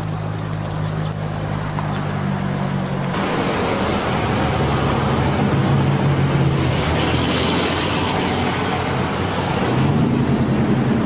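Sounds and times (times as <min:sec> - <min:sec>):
low engine hum: 0:00.0 - 0:11.0
vehicles going by: 0:00.0 - 0:11.0.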